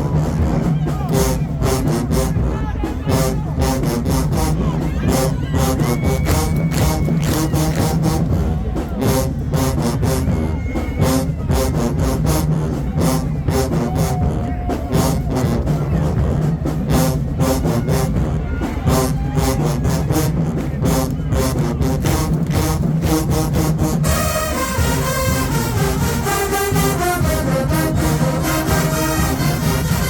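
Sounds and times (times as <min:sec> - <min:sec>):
marching band playing: 0:00.0 - 0:30.0.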